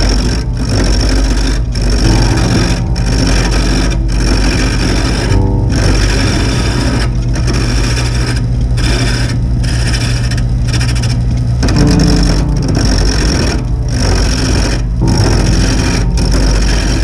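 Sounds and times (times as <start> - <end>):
woodworking machine hum: 0.0 - 17.0.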